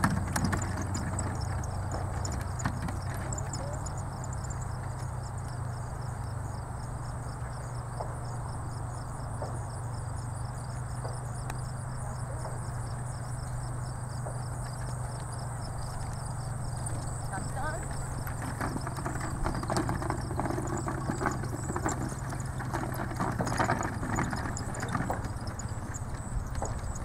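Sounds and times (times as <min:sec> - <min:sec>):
insects chirping: 0:00.0 - 0:27.0
steady low hum: 0:00.0 - 0:27.0.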